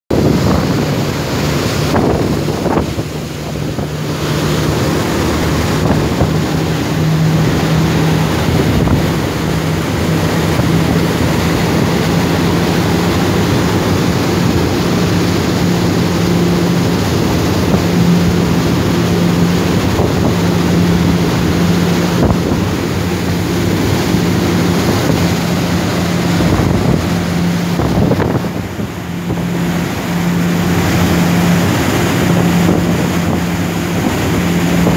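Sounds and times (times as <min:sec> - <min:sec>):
churning wake rushing: 0:00.1 - 0:34.9
motorboat engine running: 0:00.1 - 0:34.9
wind buffeting microphone: 0:00.1 - 0:34.9.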